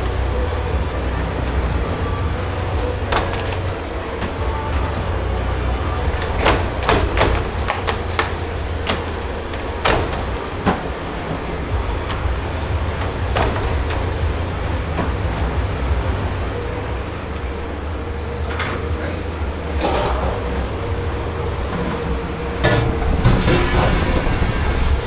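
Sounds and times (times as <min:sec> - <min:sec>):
dishes and utensils clattering: 0:00.0 - 0:17.1, 0:17.7 - 0:24.5
low machine hum: 0:00.0 - 0:25.0.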